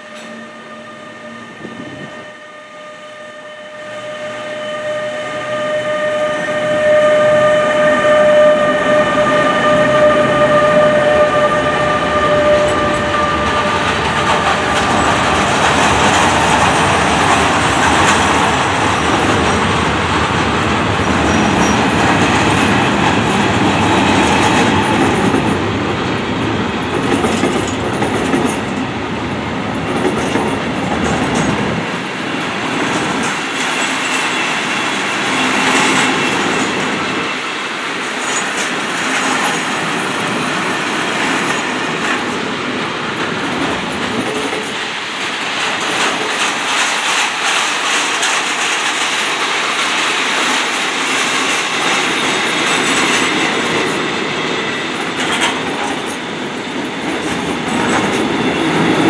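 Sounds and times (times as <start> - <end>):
electric locomotive whine: 0.0 - 59.0
train wheels rumbling and clattering: 6.4 - 59.0.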